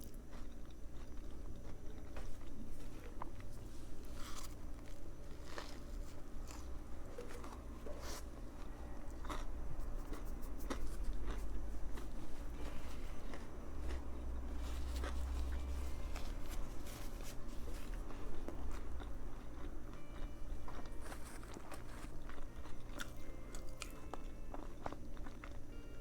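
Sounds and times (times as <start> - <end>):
chewing sandwich with crunches: 0.0 - 25.8.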